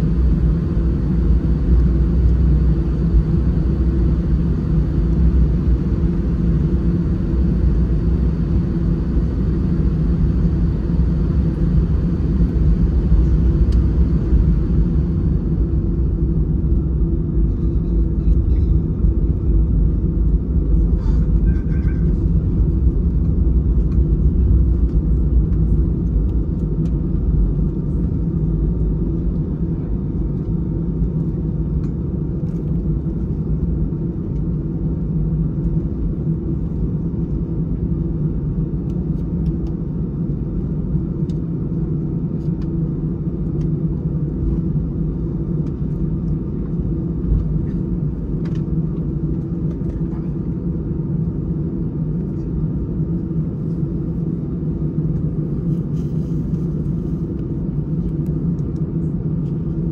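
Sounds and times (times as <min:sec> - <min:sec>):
jet engine rumble in cabin: 0:00.0 - 0:59.9.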